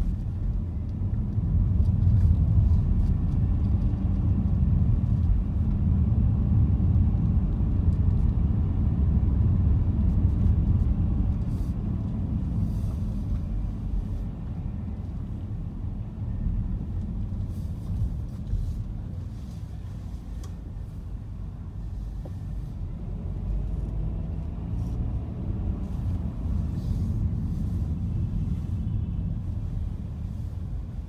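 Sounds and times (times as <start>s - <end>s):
car engine and tyres rumbling: 0.0s - 31.0s.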